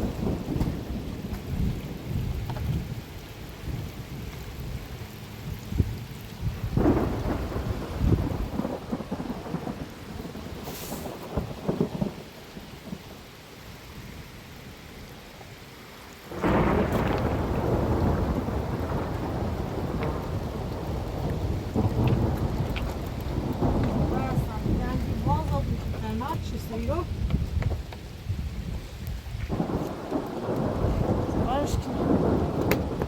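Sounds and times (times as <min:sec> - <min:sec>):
rolling thunder: 0:00.0 - 0:13.2, 0:16.3 - 0:33.0
heavy rain: 0:00.0 - 0:33.0.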